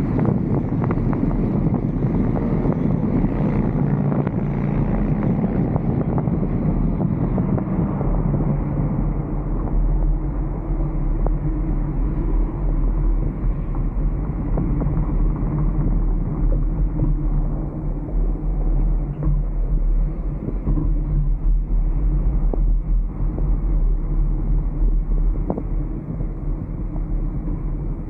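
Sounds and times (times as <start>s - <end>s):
vehicle low drone: 0.0s - 28.0s
wind rushing over vehicle roof: 0.0s - 28.0s.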